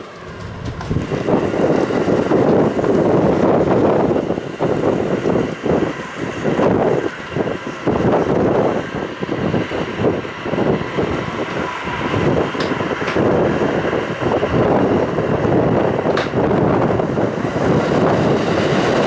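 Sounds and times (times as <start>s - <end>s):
passenger train running: 0.0s - 19.0s
wind buffeting microphone: 0.0s - 19.0s.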